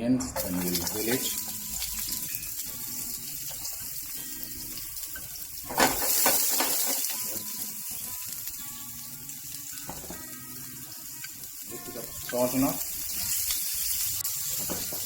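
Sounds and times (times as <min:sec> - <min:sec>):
onions sizzling in hot oil: 0:00.4 - 0:15.0.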